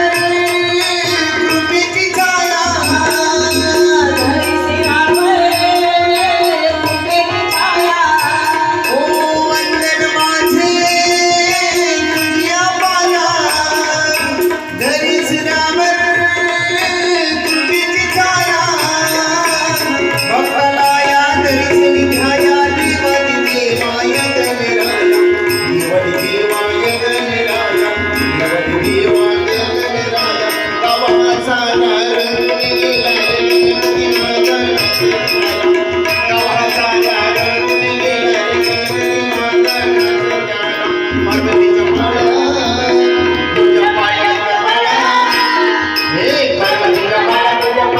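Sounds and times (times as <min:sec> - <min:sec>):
tabla beat: 0:00.0 - 0:47.9.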